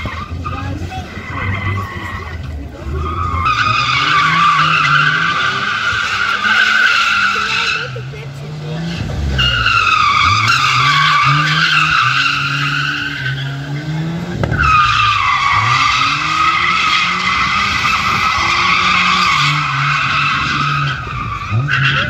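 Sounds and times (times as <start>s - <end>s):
car engine revving: 0.0s - 22.0s
tyres squealing: 0.0s - 22.0s.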